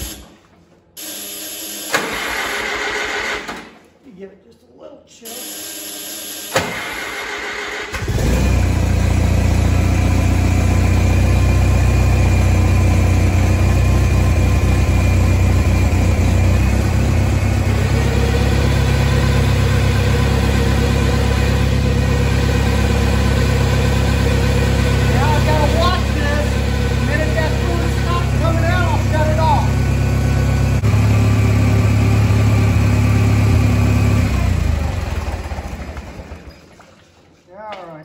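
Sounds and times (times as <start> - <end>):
tractor engine cranking and running: 1.8 - 3.9, 6.4 - 37.2.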